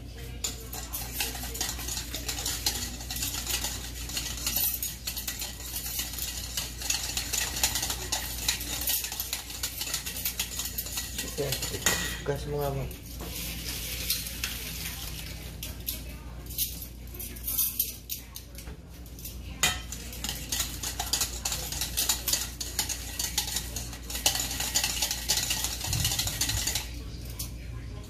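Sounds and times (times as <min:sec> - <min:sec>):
wire whisk scraping metal bowl: 0:00.1 - 0:27.6.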